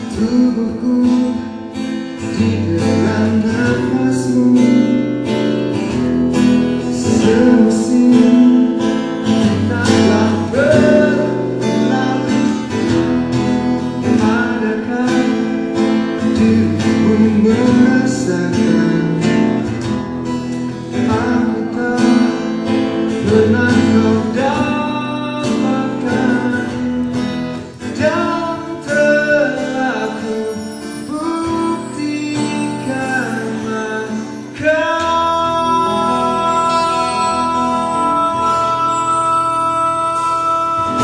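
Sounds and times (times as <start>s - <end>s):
man singing: 0.0s - 13.0s, 14.0s - 19.9s, 20.9s - 41.0s
acoustic guitar strumming: 0.0s - 41.0s.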